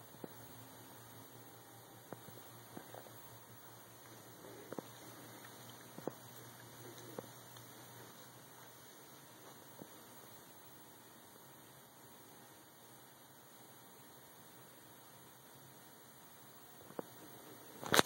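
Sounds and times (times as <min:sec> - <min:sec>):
faint steady hum and hiss: 0:00.0 - 0:18.0.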